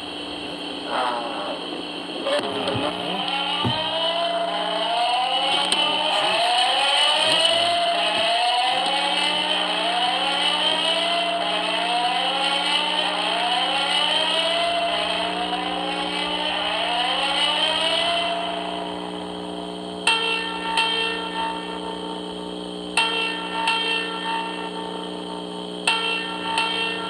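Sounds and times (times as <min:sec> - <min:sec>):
building alarm whooping: 0:00.0 - 0:22.2.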